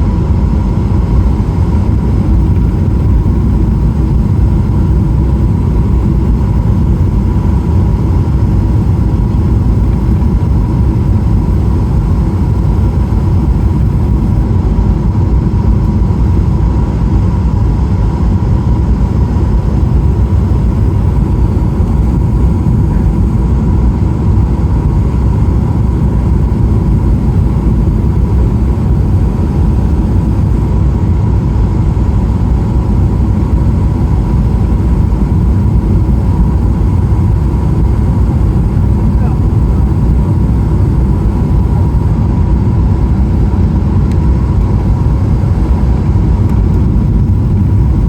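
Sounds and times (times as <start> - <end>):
airplane cabin engine rumble: 0.0 - 48.0
faint steady whine: 0.0 - 48.0.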